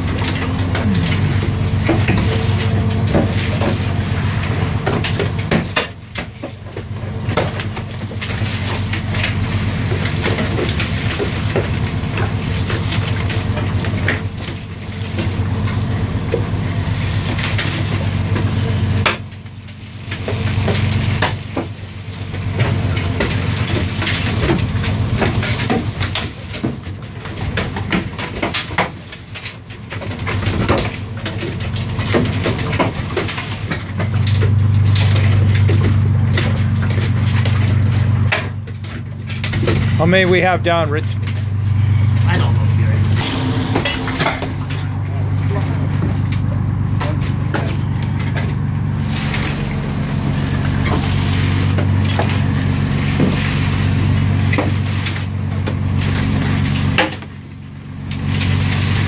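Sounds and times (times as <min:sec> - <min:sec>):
low machinery hum: 0:00.0 - 0:59.0.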